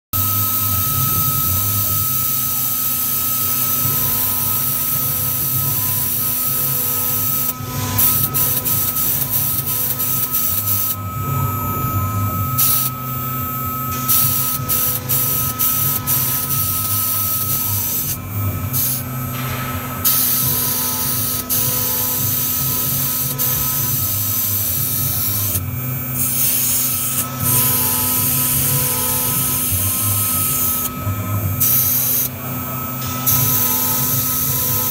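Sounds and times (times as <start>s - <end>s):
router spindle whine: 0.2s - 34.9s.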